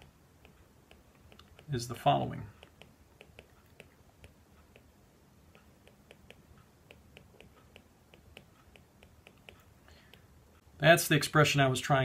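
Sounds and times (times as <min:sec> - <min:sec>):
stylus clicks on tablet screen: 0:00.0 - 0:10.3.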